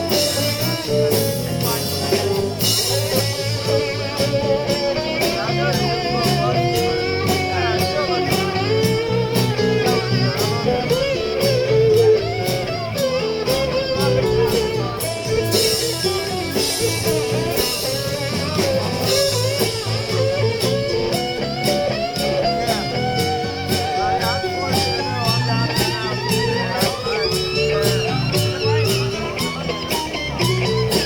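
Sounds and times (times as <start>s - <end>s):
blues-rock band playing: 0.0s - 31.0s
cymbals washing: 0.0s - 31.0s
electric guitar lead: 0.0s - 31.0s.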